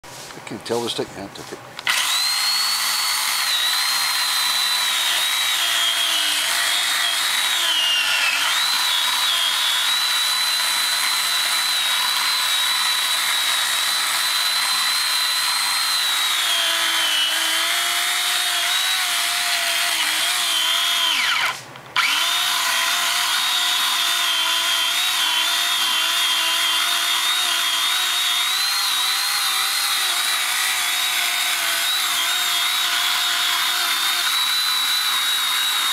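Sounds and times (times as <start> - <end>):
chainsaw cutting at high revs: 1.8 - 35.9.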